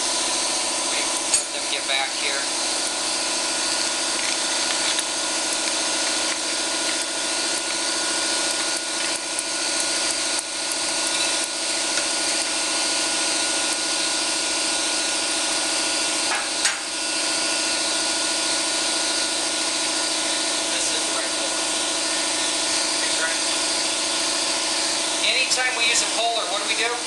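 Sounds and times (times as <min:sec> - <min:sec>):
air compressor drone: 0:00.0 - 0:27.0.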